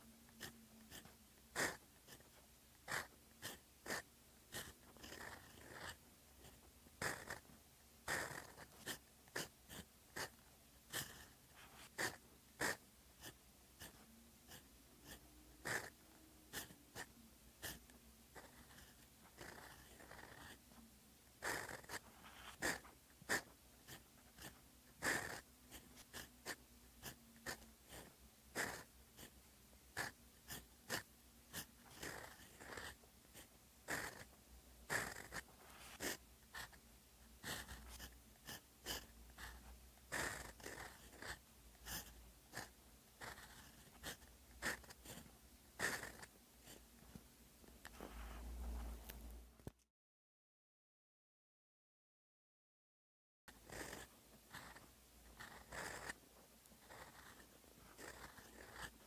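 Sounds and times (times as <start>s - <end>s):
pen nib scratching on paper: 0.0s - 49.2s, 53.5s - 59.0s.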